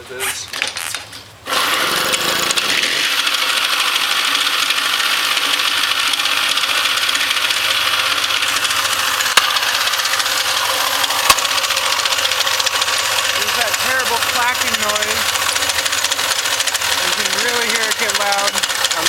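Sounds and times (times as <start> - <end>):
moped engine idling with clacking: 2.2 - 19.0.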